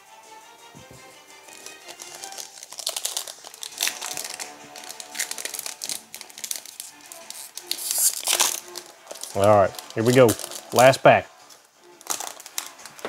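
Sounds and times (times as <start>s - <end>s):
quiet background music: 0.0s - 13.0s
foil wrapper crinkling: 1.4s - 13.0s.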